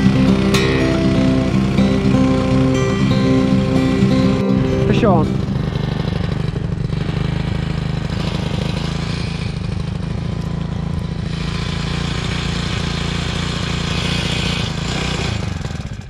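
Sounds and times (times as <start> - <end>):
small outboard motor running: 0.0 - 16.0.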